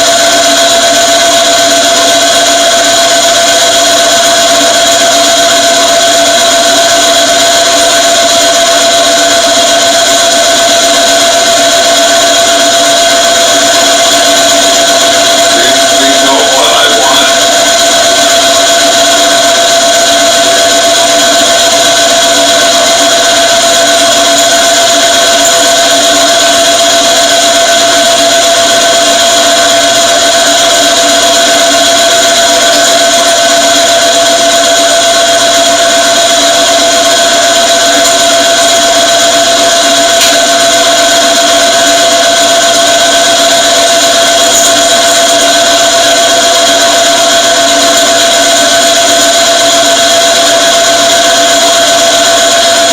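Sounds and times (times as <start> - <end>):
machine spindle hum: 0.0 - 52.9.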